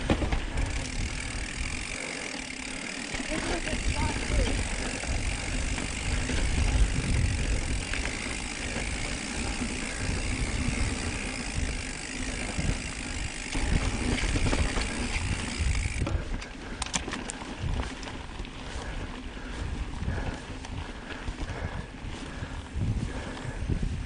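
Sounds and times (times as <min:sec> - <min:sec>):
bike rattling: 0:00.0 - 0:24.0
bike tyres on rocky trail: 0:00.0 - 0:24.0
wind buffeting microphone: 0:03.3 - 0:24.0.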